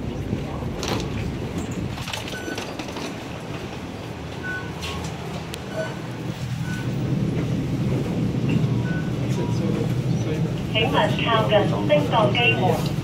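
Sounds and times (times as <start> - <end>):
train rumbling through station: 0.0 - 13.0.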